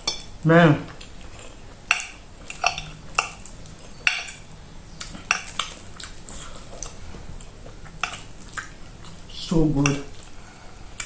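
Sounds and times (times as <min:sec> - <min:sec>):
chewing: 0:00.9 - 0:11.0.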